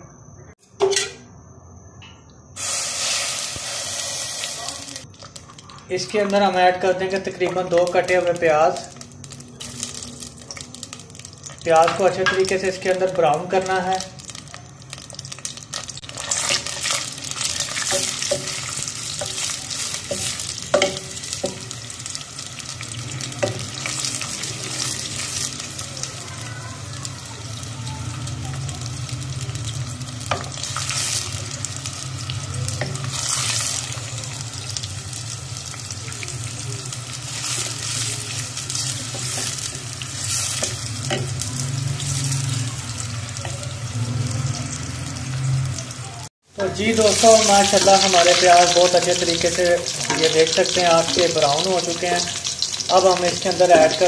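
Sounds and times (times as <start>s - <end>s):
onions sizzling in oil: 2.6s - 54.0s.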